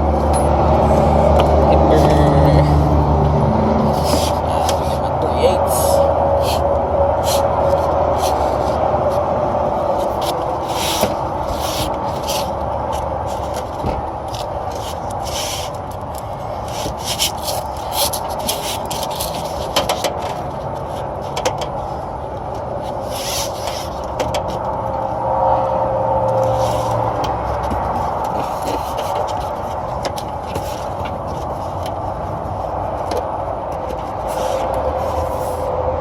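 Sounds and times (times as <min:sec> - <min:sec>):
rubbing and scraping on copper pipe: 0:00.0 - 0:35.8
steady background hum: 0:00.0 - 0:36.0.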